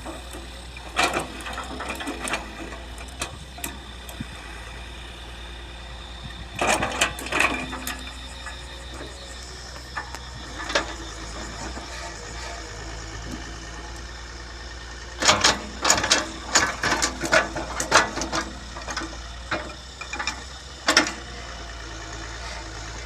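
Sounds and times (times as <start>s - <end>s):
excavator engine hum: 0.0s - 23.0s.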